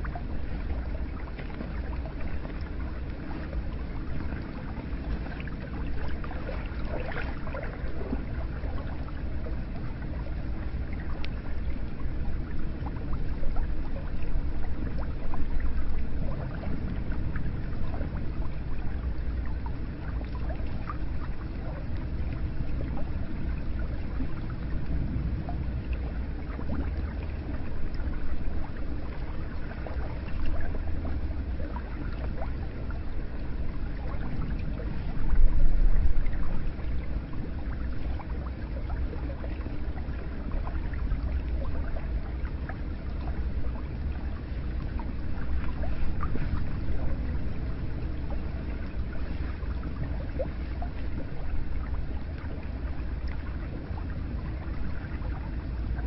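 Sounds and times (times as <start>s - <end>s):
deep rumble: 0.0s - 56.0s.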